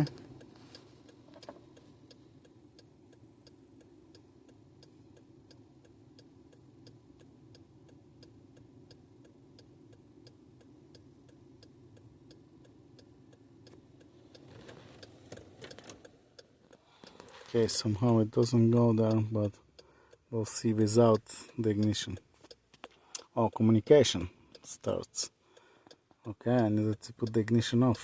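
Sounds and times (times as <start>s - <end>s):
hazard light flasher ticking: 0.0s - 28.0s
low steady hum: 0.0s - 28.0s.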